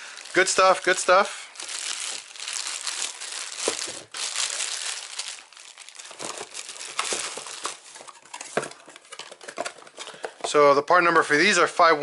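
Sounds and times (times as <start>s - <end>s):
plastic wrapping crinkling: 0.0s - 10.1s.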